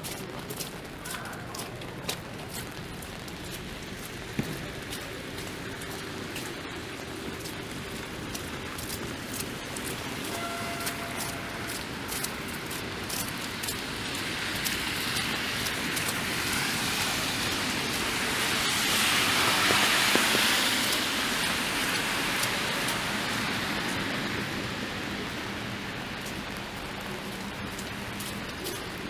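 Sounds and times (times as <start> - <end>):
car tyres hissing through slush: 0.0 - 29.0
rain and sleet: 0.0 - 29.0.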